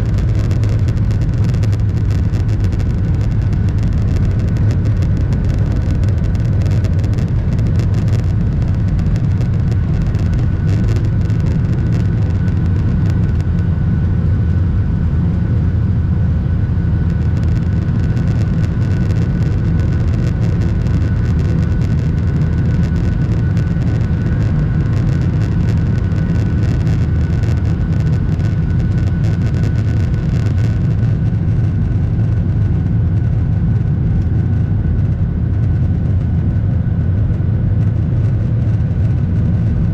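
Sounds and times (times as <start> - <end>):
faint engine whine: 0.0 - 39.9
jet cabin engine rumble: 0.0 - 39.9.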